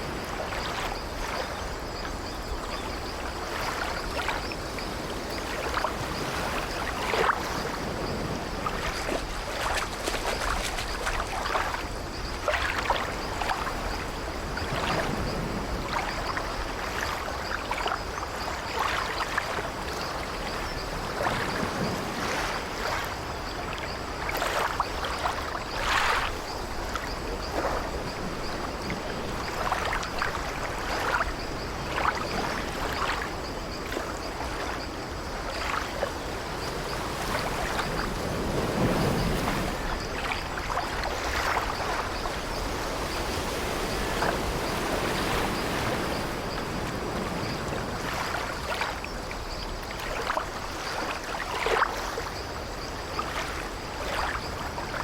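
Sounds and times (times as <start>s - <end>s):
sea waves washing: 0.0s - 55.0s.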